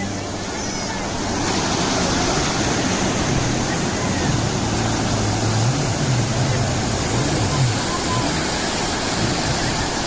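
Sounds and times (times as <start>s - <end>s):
jet ski engine humming: 0.0s - 10.0s
surf breaking on beach: 0.0s - 10.0s.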